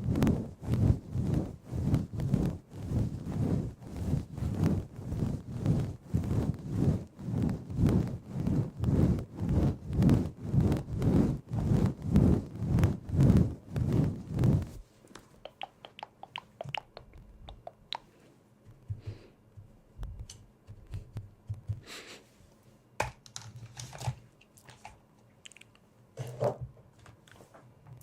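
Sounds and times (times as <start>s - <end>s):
soft rustles: 0.0s - 22.9s.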